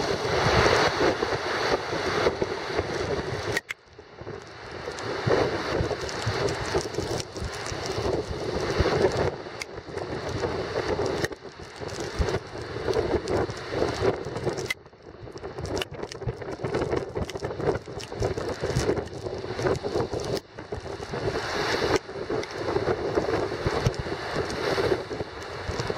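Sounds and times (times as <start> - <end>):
storm waves breaking: 0.0 - 25.9
wind buffeting microphone: 0.0 - 25.9.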